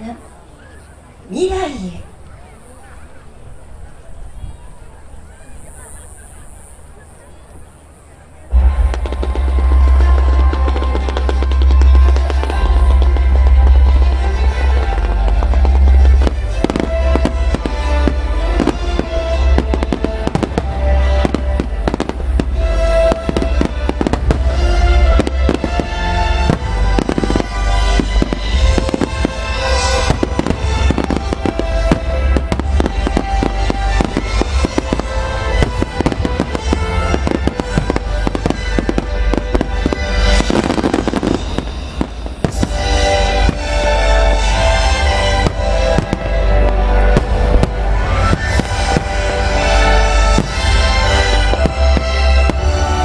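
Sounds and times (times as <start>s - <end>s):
firework bangs and crackles: 8.3s - 53.0s
music playing: 8.5s - 53.0s.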